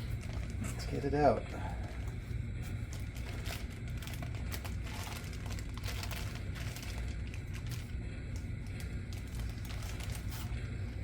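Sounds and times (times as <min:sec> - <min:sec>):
packaging crinkling: 0:00.0 - 0:01.1, 0:01.9 - 0:10.6
steady low hum: 0:00.0 - 0:11.0.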